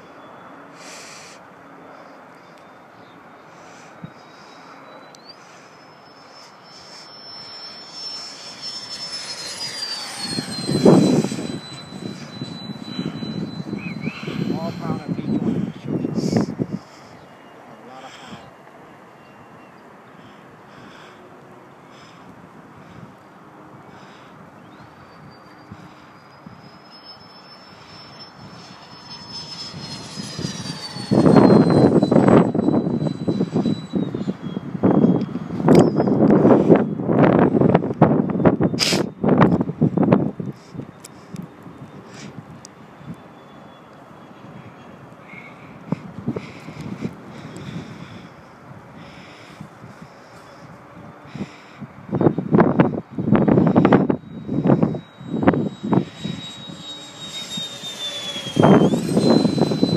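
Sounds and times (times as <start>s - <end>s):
model jet fan whine: 0.0s - 59.9s.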